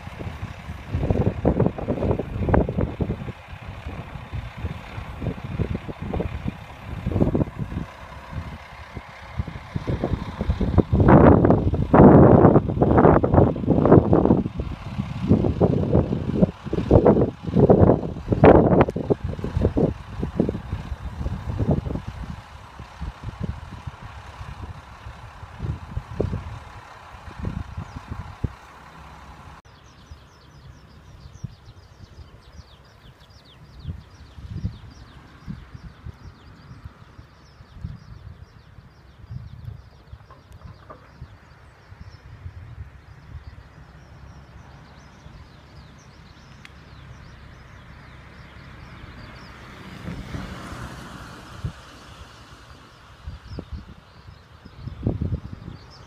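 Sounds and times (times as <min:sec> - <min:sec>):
diesel railcar idling: 0:00.0 - 0:56.0
small birds chirping: 0:00.0 - 0:56.0.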